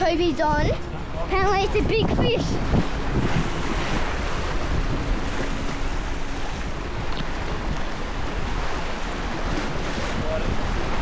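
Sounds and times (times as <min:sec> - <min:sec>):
waves washing on rocks: 0:00.0 - 0:11.0
wind buffeting microphone: 0:00.0 - 0:11.0.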